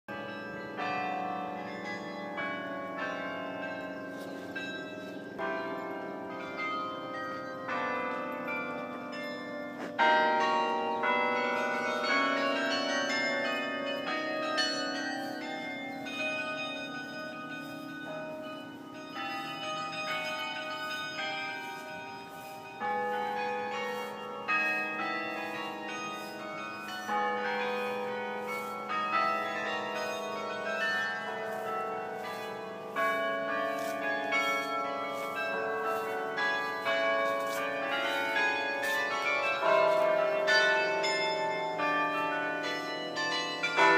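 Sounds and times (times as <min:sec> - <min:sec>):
carillon bells playing a tune: 0:00.1 - 0:43.9.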